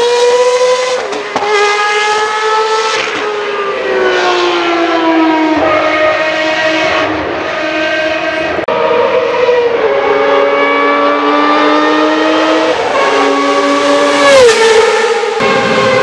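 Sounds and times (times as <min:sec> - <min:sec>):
racing car engine at full throttle: 0:00.0 - 0:16.0.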